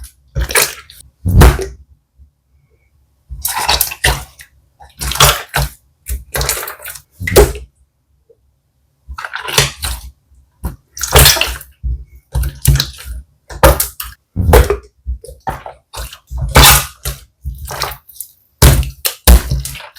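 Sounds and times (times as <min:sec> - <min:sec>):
wet slime squelches: 0:00.0 - 0:01.9, 0:02.5 - 0:19.9.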